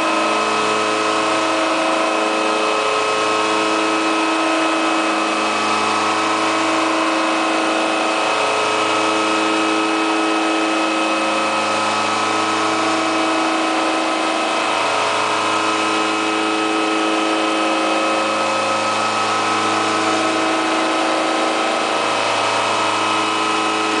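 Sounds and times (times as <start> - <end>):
milling machine whine: 0.0 - 24.0.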